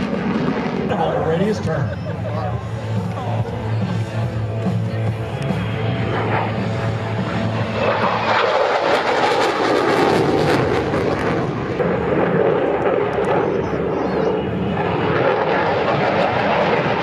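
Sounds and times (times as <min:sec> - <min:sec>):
jet engine rushing overhead: 0:00.0 - 0:17.0.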